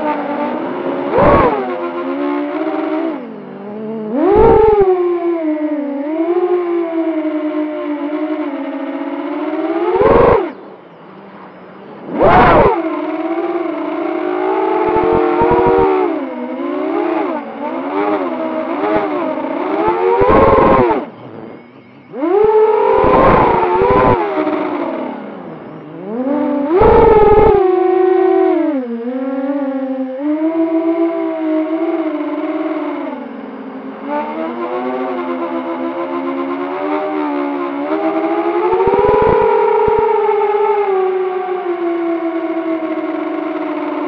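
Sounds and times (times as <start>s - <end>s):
quadcopter motors whining: 0.0s - 10.6s, 11.4s - 33.9s, 37.4s - 40.7s.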